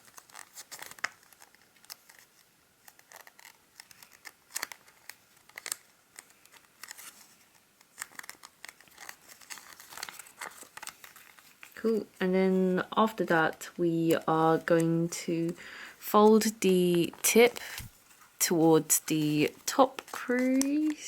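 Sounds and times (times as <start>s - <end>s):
paper being folded and creased: 0.0s - 21.0s.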